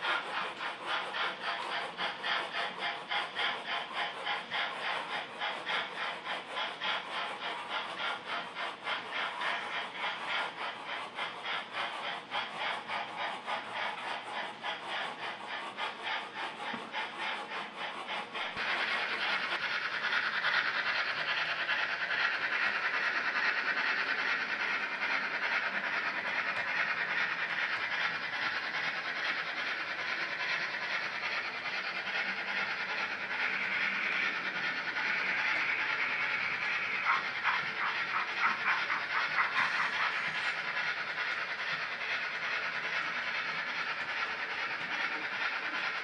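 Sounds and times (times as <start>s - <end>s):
steam hiss: 0.0s - 46.0s
steam locomotive chuffing: 0.0s - 46.0s.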